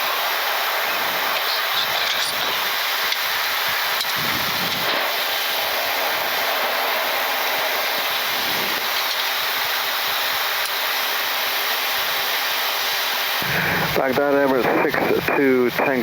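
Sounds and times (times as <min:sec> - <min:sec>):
airflow and air-conditioning rushing: 0:00.0 - 0:15.9.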